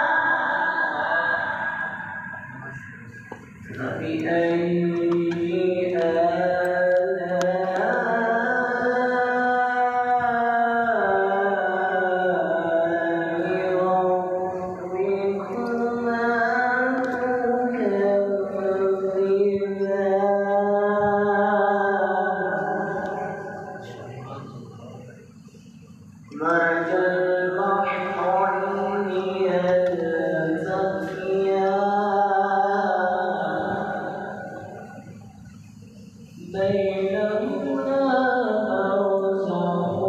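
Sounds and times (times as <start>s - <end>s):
man chanting melodically: 0.0s - 25.4s, 26.3s - 35.4s, 36.0s - 40.0s.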